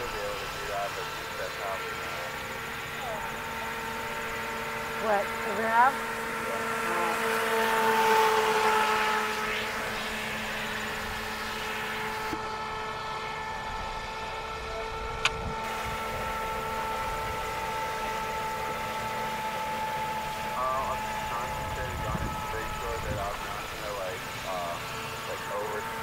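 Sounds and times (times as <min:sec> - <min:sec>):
model boat motor whine: 0:00.0 - 0:26.0.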